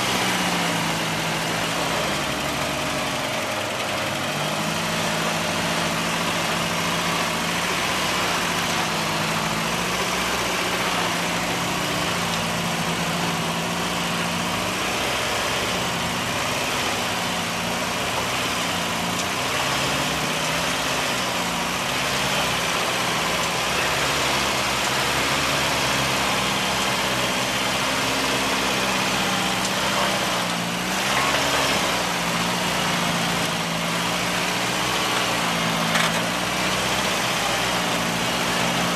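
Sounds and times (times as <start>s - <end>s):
vehicle engine running at low speed: 0.0s - 38.9s.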